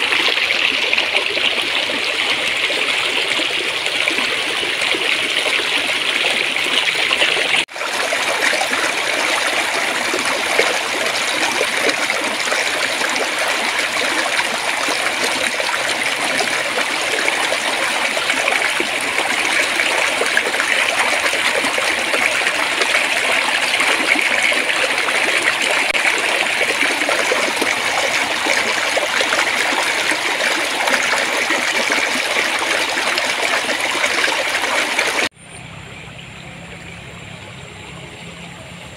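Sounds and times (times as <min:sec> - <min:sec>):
stream water babbling: 0:00.0 - 0:38.6.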